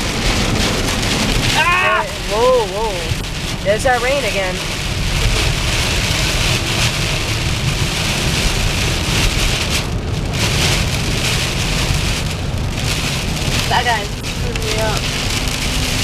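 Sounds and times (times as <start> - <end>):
heavy rain on car: 0.0 - 16.0
road rumble: 0.0 - 16.0.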